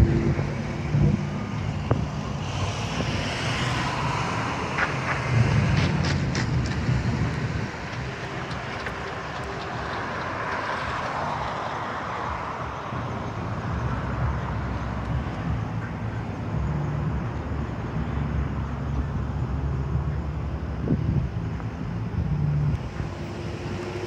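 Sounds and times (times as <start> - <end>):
cars passing on road: 0.0 - 24.0.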